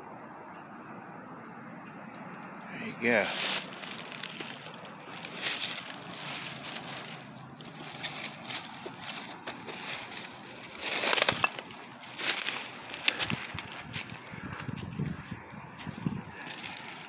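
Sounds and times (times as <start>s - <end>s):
footsteps crunching through dry leaves: 2.8s - 17.0s.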